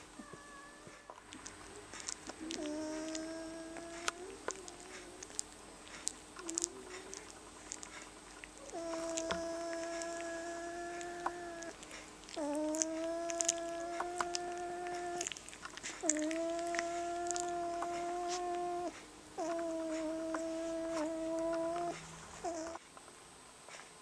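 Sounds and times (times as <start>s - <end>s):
puppy whining: 0.0s - 22.8s.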